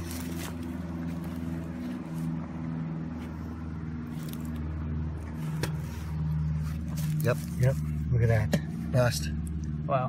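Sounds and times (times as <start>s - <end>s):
low droning hum: 0.0s - 10.0s.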